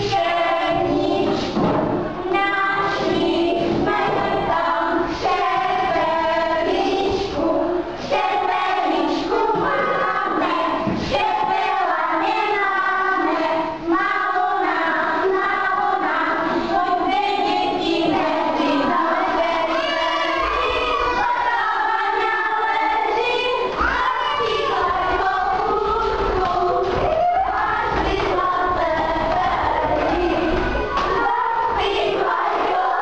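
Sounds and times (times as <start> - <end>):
children and women singing: 0.0 - 33.0.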